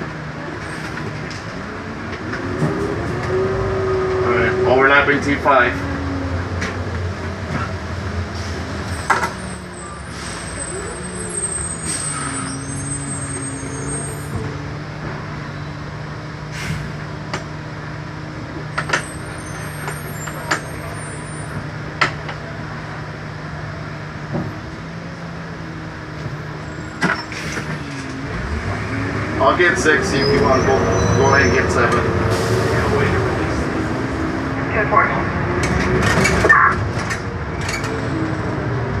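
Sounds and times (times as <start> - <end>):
bus engine hum: 0.0 - 39.0.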